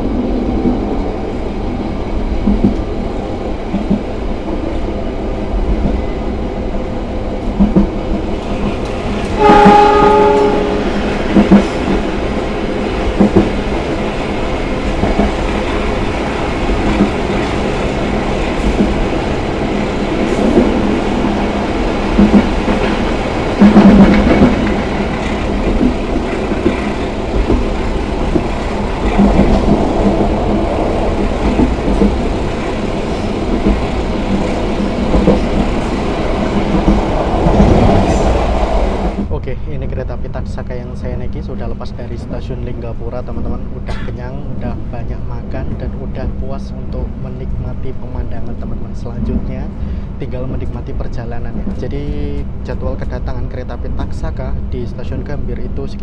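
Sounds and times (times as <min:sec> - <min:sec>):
clickety-clack at rail joints: 0:00.0 - 0:39.3, 0:40.1 - 0:56.0
train wheels rumbling on rail: 0:00.0 - 0:56.0.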